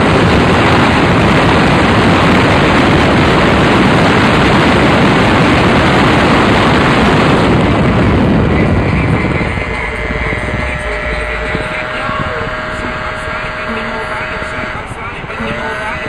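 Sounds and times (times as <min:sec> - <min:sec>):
car wind and road noise: 0:00.0 - 0:16.0.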